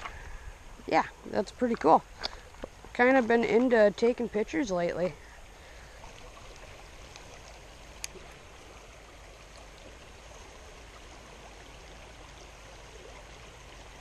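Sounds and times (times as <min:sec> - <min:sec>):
stream running over its bed: 0:00.0 - 0:14.0.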